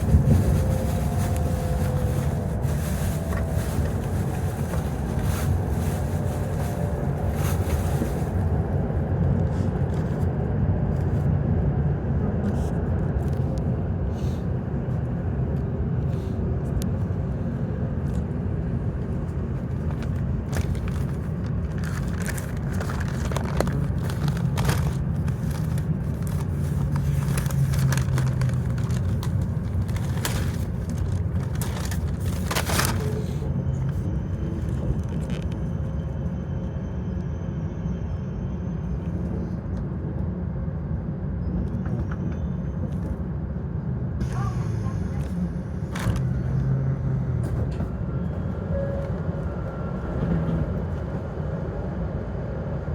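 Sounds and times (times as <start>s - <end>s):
train cabin low rumble: 0.0s - 52.9s.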